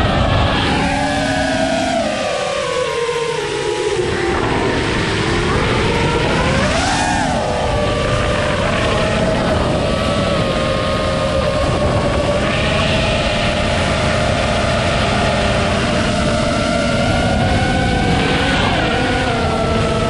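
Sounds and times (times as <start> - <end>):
drone motors whining: 0.0 - 20.0
low rushing noise: 0.0 - 20.0.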